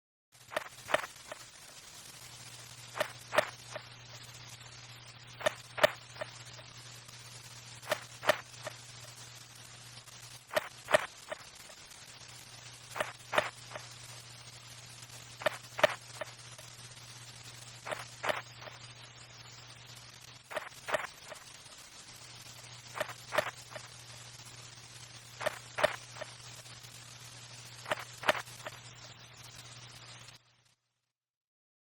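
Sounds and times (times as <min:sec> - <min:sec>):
steady low hum: 0:02.6 - 0:11.5, 0:12.5 - 0:30.4.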